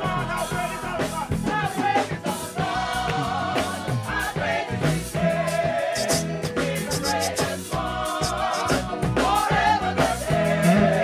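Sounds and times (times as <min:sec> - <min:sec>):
gospel choir singing: 0:00.0 - 0:11.0
live band playing: 0:00.0 - 0:11.0.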